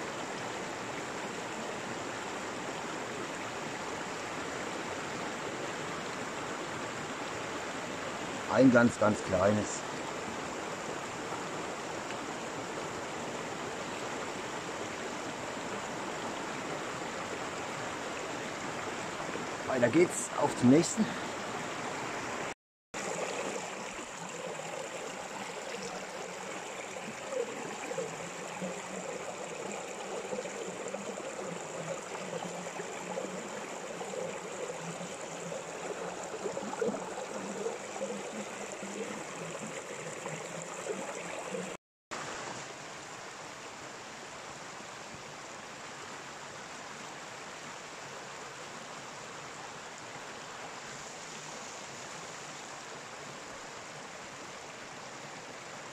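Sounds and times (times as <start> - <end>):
stream water running: 0.0 - 55.9.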